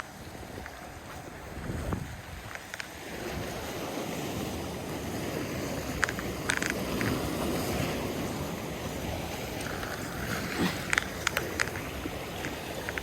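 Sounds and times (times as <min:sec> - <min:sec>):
water noise: 0:00.0 - 0:13.0
wind: 0:00.0 - 0:13.0.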